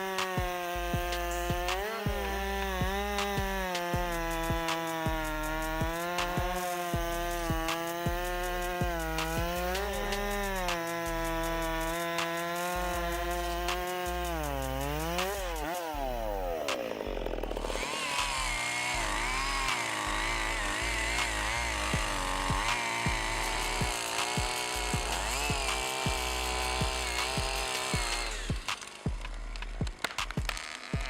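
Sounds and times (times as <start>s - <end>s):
background music with beat: 0.0s - 17.0s, 17.6s - 31.0s
chainsaw cutting wood: 0.0s - 31.0s.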